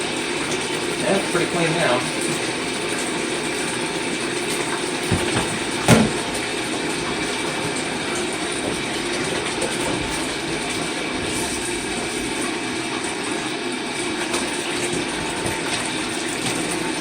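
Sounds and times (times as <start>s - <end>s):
water running into a tub: 0.0s - 17.0s.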